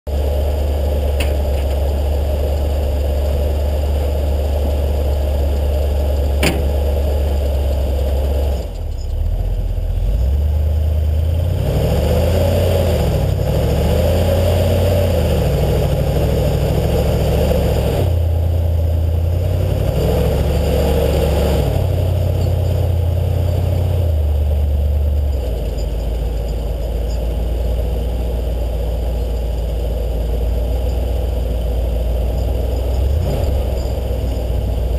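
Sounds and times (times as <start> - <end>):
vehicle engine revving: 0.1 - 34.9.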